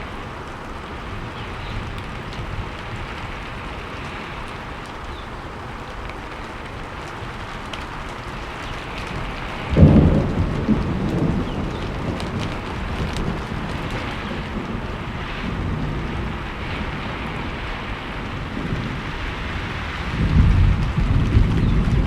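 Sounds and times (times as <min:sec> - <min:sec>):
rain falling: 0:00.0 - 0:22.0
thunderclap rumbling: 0:00.0 - 0:22.0.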